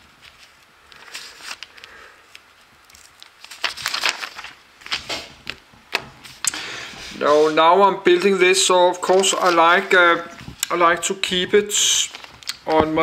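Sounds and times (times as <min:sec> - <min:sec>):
paper pages rustling: 0:00.0 - 0:13.0.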